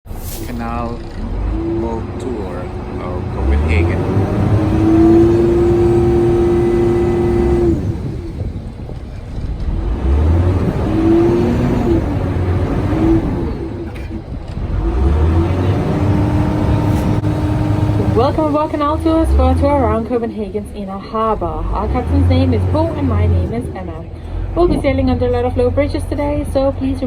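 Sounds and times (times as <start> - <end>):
boat engine hum: 0.1 - 27.0
steady low rumble: 0.1 - 27.0.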